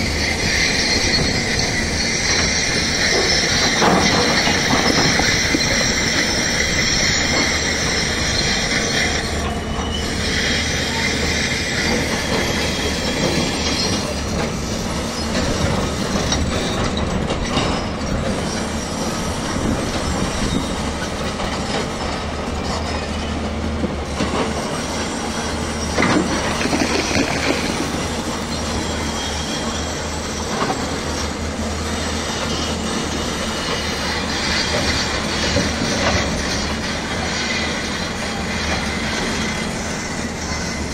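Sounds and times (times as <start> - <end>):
excavator tracks squealing and clanking: 0.0 - 40.9.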